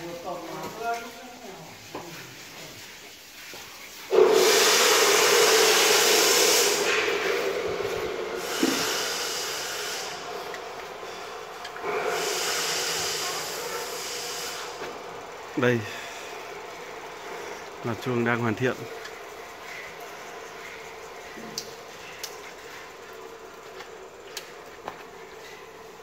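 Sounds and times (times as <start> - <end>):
loud steady hiss: 0.0 - 26.0.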